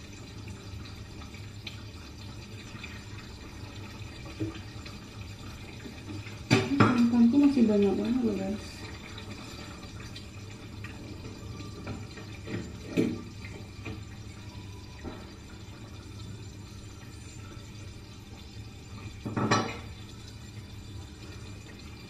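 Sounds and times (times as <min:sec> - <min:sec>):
coconut milk pouring: 0:00.0 - 0:22.0.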